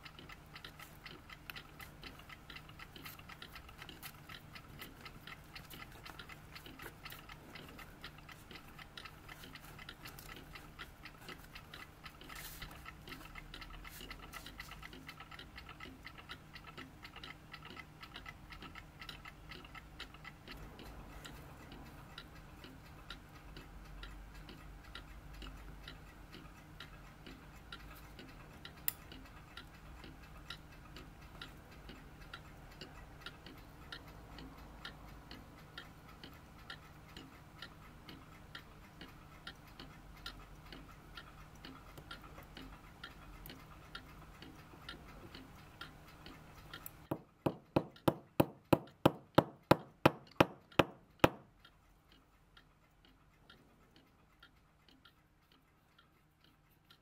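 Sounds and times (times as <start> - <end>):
louder sharper ticks: 0.0 - 57.0
mechanical clock ticking: 0.0 - 57.0.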